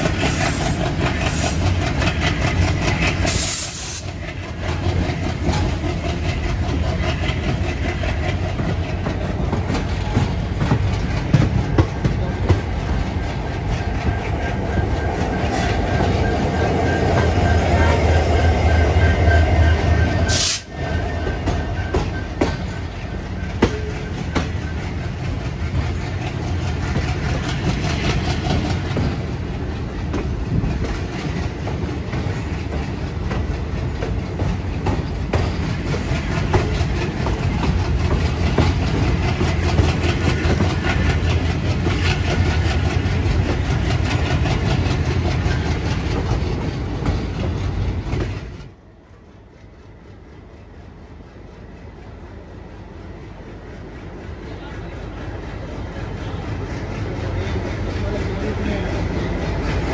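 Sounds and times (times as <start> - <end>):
diesel locomotive engines: 0.0 - 59.9.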